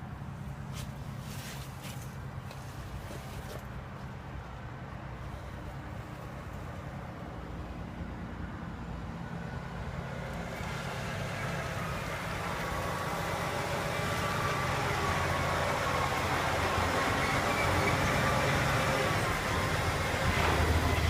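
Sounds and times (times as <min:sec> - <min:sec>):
low engine rumble: 0:00.0 - 0:21.0
traffic noise rushing: 0:00.0 - 0:21.0.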